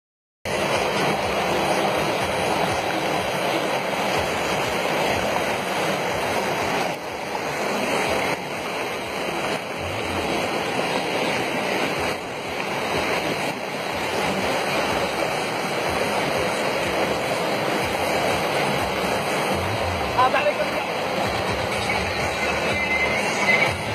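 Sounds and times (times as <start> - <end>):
floodwater rushing: 0.5 - 23.9
heavy rain: 0.5 - 23.9.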